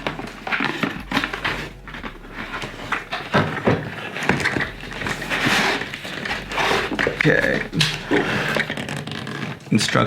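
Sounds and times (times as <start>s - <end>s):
packaging rustling: 0.0s - 10.0s
packaging scraping: 0.0s - 10.0s.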